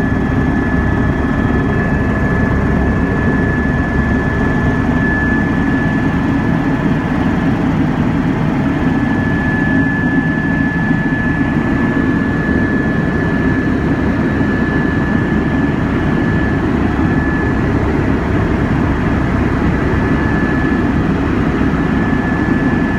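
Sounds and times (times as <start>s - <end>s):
helicopter rotor and engine noise: 0.0s - 22.9s
high turbine whine: 0.0s - 22.9s.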